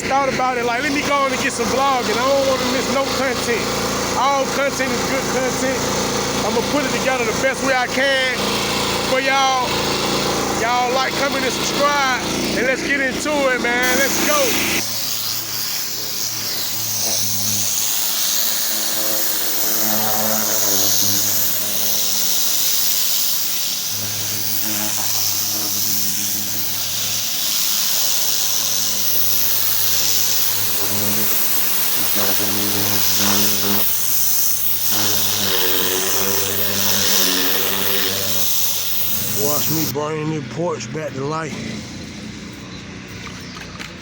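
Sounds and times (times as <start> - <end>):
engine hum: 0.0 - 44.0
pressure washer spray hiss: 0.1 - 39.9.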